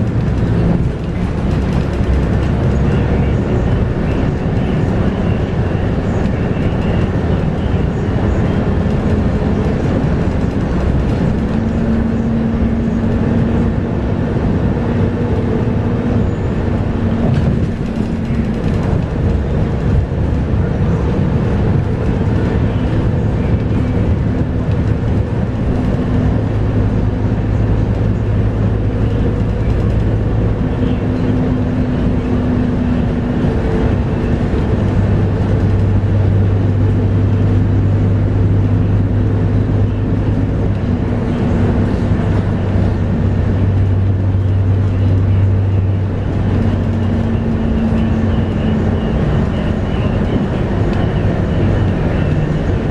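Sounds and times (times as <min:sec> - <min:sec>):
bus diesel engine drone: 0:00.0 - 0:52.9
road noise: 0:00.0 - 0:52.9.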